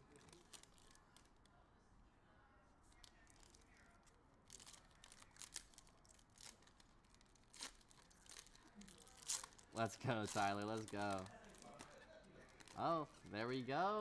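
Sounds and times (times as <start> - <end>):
foil wrapper crinkling: 0.0 - 1.4, 3.0 - 13.8.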